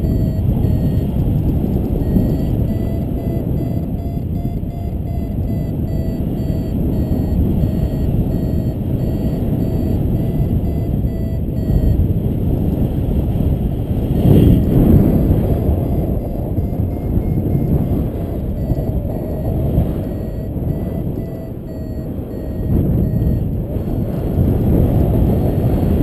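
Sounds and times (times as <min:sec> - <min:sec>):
variometer beeping: 0:00.0 - 0:12.9, 0:14.1 - 0:25.9
wind rushing over microphone: 0:00.0 - 0:26.0.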